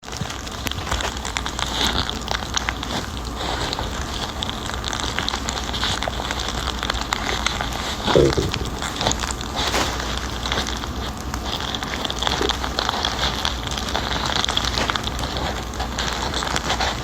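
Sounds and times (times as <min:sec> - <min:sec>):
steady low hum: 0:00.0 - 0:17.0
wet crackles of stirred food: 0:00.0 - 0:17.0.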